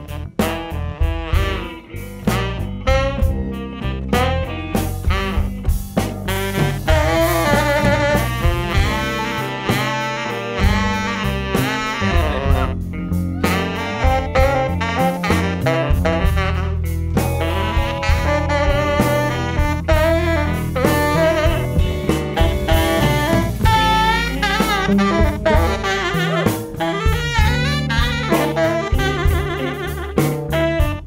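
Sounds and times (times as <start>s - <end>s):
drum kit: 0.0s - 31.0s
tenor saxophone solo: 0.0s - 31.0s.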